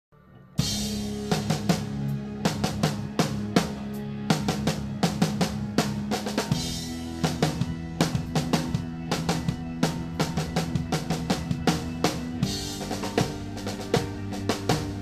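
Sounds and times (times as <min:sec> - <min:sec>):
sustained low guitar chords: 0:00.1 - 0:15.0
drum kit played hard: 0:00.6 - 0:15.0.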